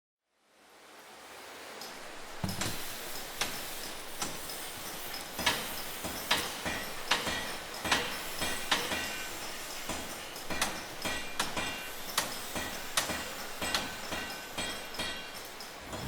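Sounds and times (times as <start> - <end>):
steady hiss: 0.4 - 16.0.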